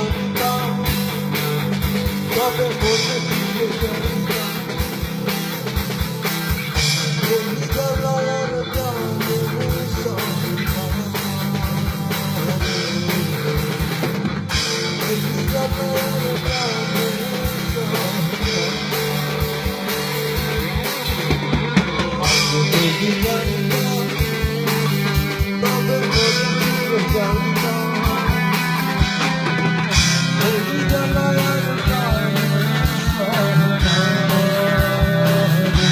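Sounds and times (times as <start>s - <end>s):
drum kit beat: 0.0s - 35.9s
electric guitar: 0.0s - 35.9s.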